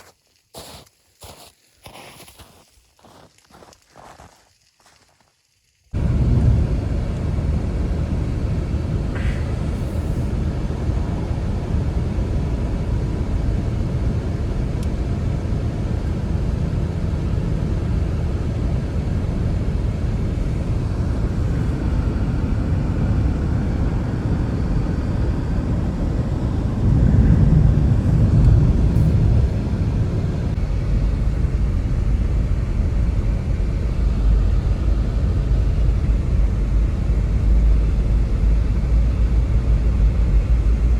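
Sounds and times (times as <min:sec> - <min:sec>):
blizzard wind blowing: 0:05.9 - 0:40.9.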